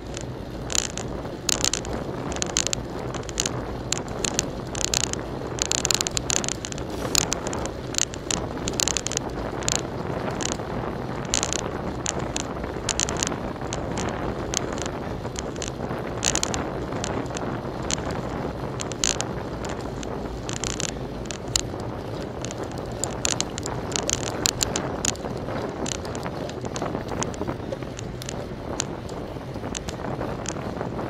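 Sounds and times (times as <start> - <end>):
road rumble: 0.0 - 31.0
sharp clicks and rattles: 0.0 - 31.0
wind buffeting microphone: 0.0 - 31.0.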